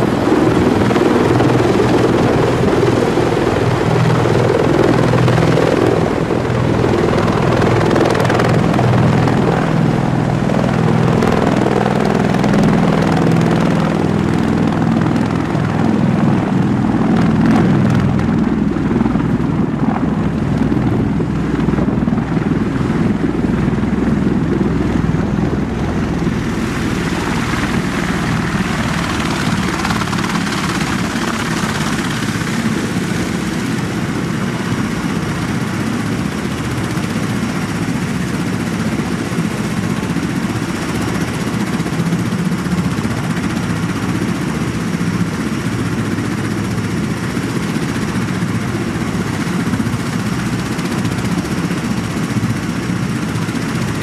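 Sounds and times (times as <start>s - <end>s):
tiltrotor aircraft hovering: 0.0s - 54.0s.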